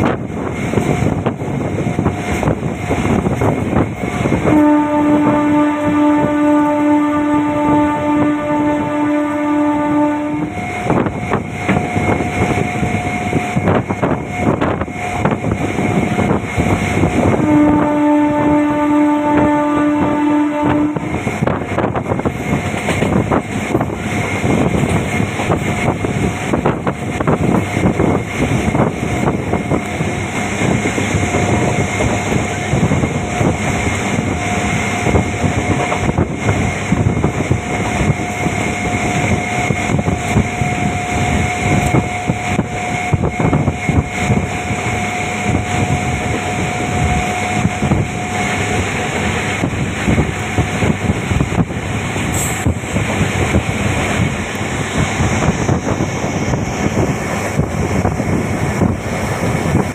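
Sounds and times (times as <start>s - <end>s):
train running noise: 0.0s - 59.9s.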